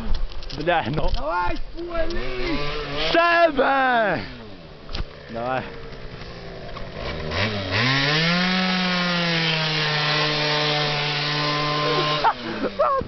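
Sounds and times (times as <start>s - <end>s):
scooter engine revving: 2.0s - 13.0s.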